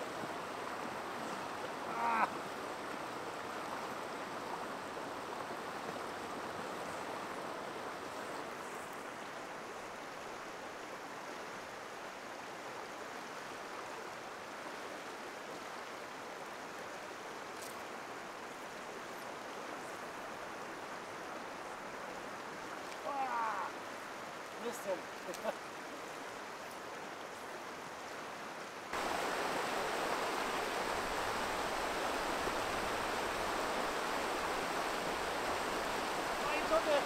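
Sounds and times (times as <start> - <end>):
river rushing over stones: 0.0 - 37.0.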